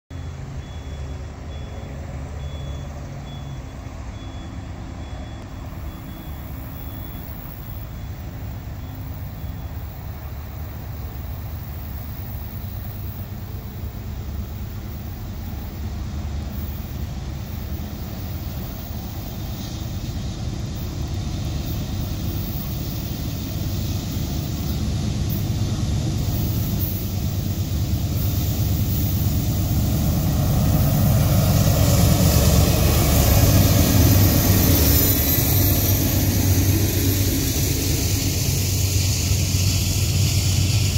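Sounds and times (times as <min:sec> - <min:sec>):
distant diesel locomotive drone: 0:00.1 - 0:40.9.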